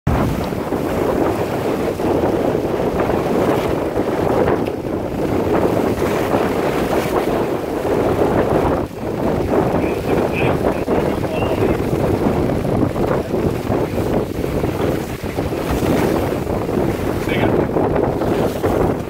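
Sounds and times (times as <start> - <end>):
water and waves rushing: 0.1 - 19.0
wind buffeting microphone: 0.1 - 19.0.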